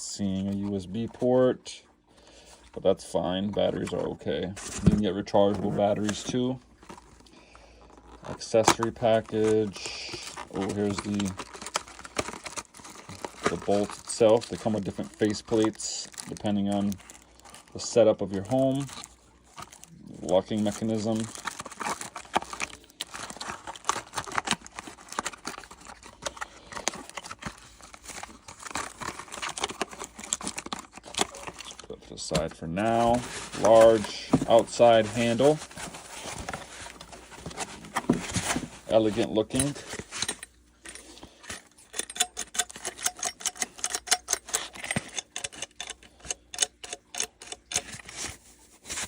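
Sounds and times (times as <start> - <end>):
plastic packaging crinkling: 2.0 - 49.0.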